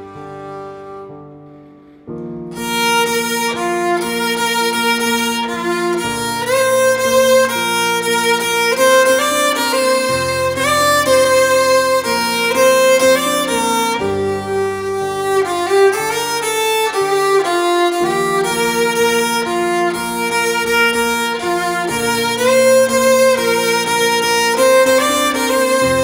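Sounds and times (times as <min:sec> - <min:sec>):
slow held music chords: 0:00.0 - 0:26.0.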